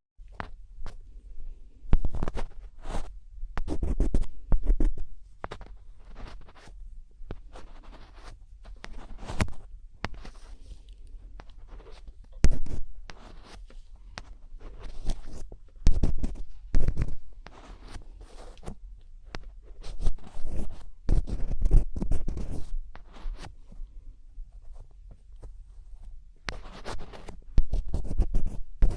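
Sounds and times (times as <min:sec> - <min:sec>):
close scratching strokes: 0:02.1 - 0:23.6, 0:26.5 - 0:28.9.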